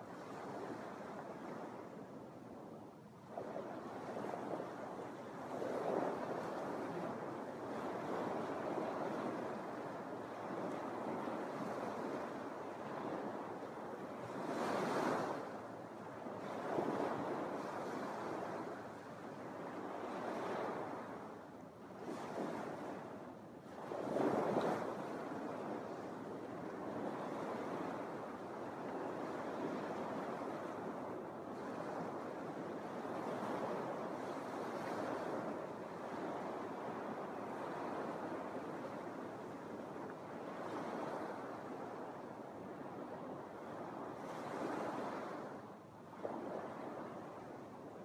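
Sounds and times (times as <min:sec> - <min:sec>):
waves washing onto beach: 0:00.0 - 0:48.0.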